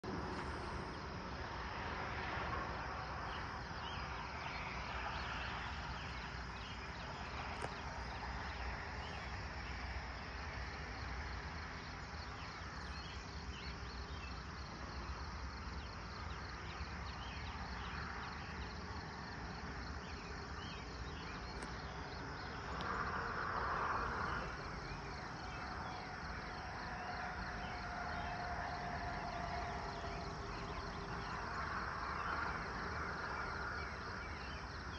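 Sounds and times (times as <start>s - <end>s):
faint steady tone: 0.0s - 34.9s
low rural rumble: 0.0s - 34.9s
crickets chirring: 0.1s - 34.9s.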